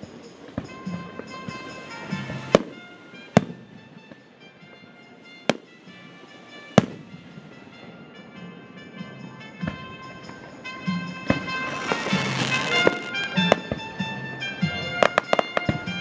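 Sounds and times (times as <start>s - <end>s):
fireworks shells bursting: 0.0s - 8.0s, 9.6s - 16.0s
background music: 0.0s - 16.0s.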